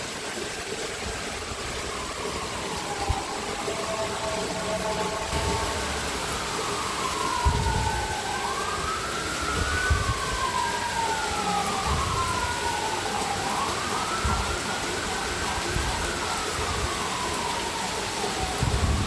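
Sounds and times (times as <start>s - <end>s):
heavy rain hissing: 0.0s - 19.0s
siren wailing: 0.3s - 19.0s.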